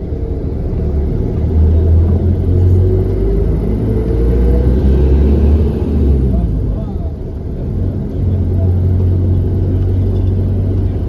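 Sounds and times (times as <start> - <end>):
faint engine whine: 0.0 - 11.0
road rumble inside vehicle: 0.0 - 11.0.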